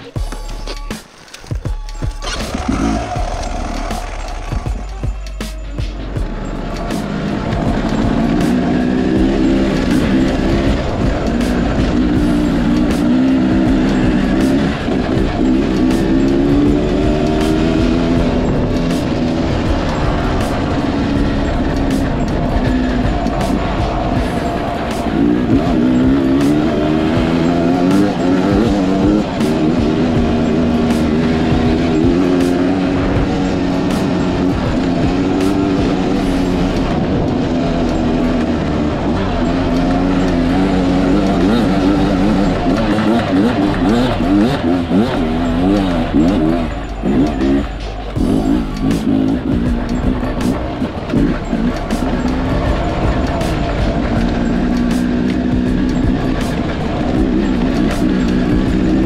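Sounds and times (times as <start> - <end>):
dirt bike engine revving: 0.0 - 59.0
music with steady beat: 0.0 - 59.0.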